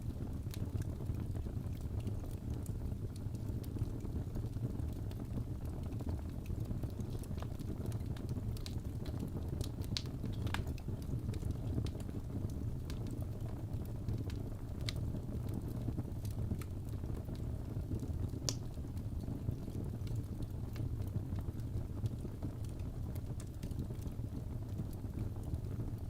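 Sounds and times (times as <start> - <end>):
fire flames rumbling: 0.0 - 26.0
logs crackling and popping: 0.1 - 26.0.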